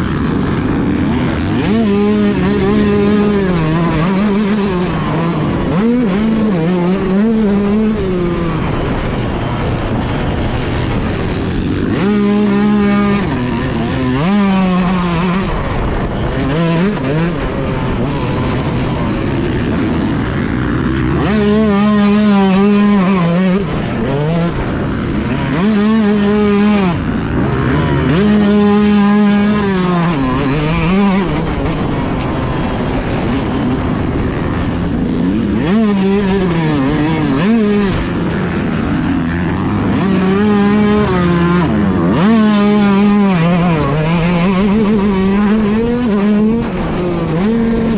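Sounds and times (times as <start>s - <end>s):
motocross engine revving: 0.0s - 47.9s
rough rushing noise: 0.0s - 47.9s.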